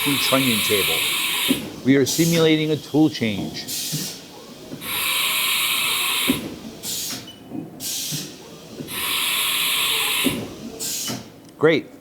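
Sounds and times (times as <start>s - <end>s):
compressed air hissing: 0.0s - 11.4s.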